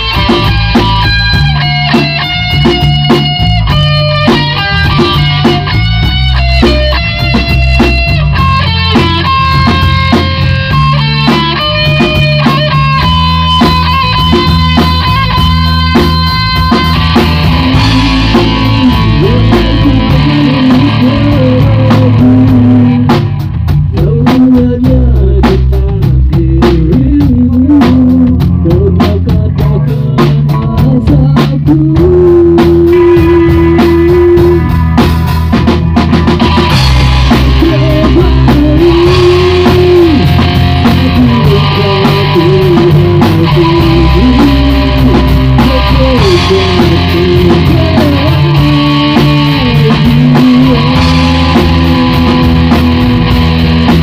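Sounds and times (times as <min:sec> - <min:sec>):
bending electric guitar melody: 0:00.0 - 0:54.0
rock band playing: 0:00.0 - 0:54.0.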